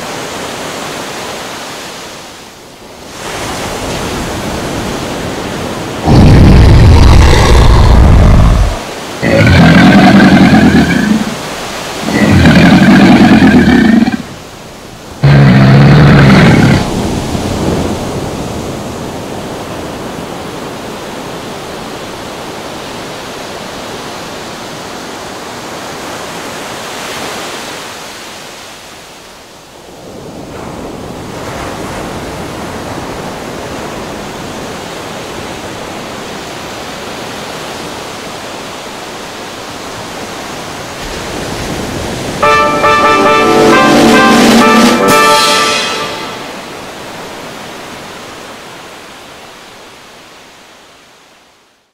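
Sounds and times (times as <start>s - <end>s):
ocean surf washing: 0.0s - 51.4s.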